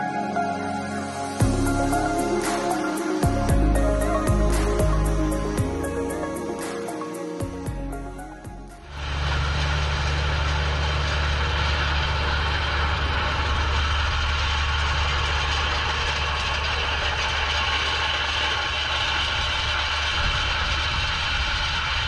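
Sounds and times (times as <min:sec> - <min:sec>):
tractor diesel engine under load: 0:01.4 - 0:06.6, 0:07.5 - 0:22.0.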